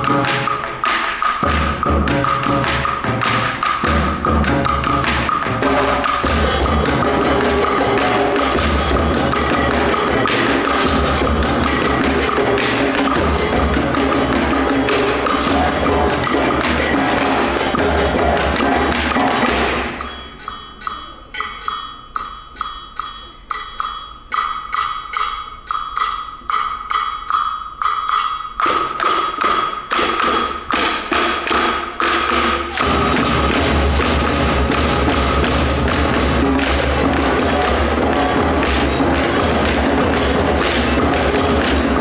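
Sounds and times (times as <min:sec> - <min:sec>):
percussion ensemble drumming: 0:00.0 - 0:42.0
rhythmic taps and clicks: 0:00.0 - 0:42.0.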